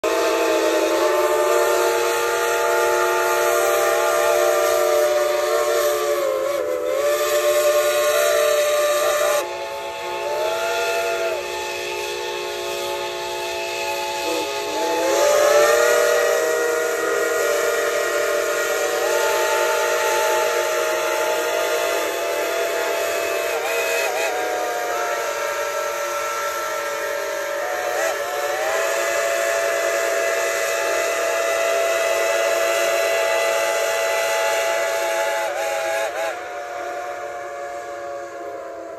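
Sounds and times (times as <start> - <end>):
steam hiss: 0.0 - 38.9
steam locomotive whistles: 0.0 - 38.9.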